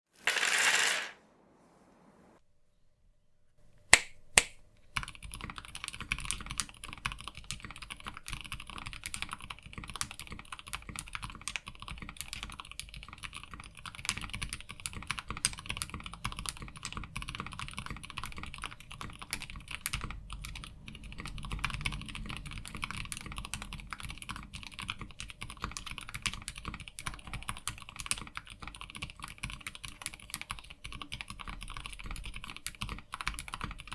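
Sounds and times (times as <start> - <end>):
mechanical keyboard typing: 5.0 - 33.9.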